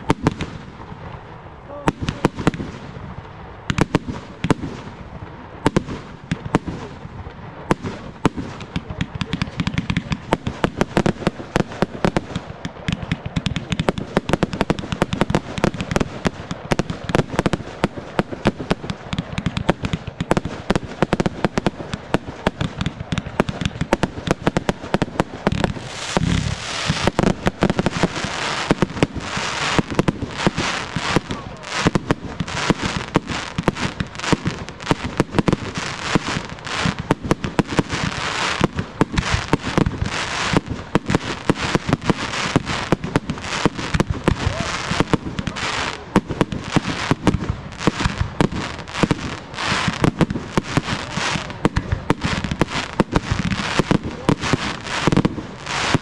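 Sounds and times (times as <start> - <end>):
firework crackling: 0.0 - 56.0
firework launches and bangs: 1.9 - 56.0.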